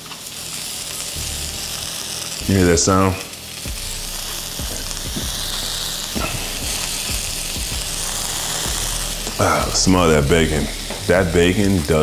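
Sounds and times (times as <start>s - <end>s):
bacon sizzling in skillet: 0.0s - 12.0s
grease popping: 1.2s - 12.0s.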